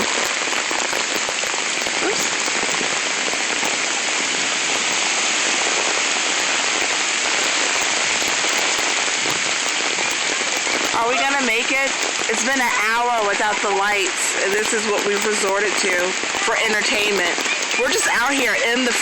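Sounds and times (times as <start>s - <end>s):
heavy rain downpour: 0.0s - 19.0s.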